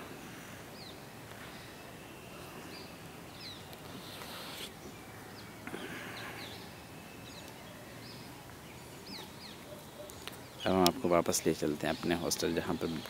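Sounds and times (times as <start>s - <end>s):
birds chirping: 0.0s - 13.0s
faint outdoor background: 0.0s - 13.0s.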